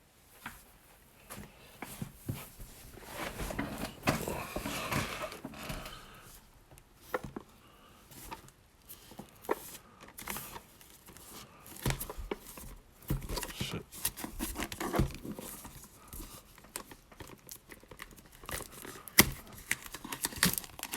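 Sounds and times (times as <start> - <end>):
packaging rustling and crinkling: 0.3 - 20.9.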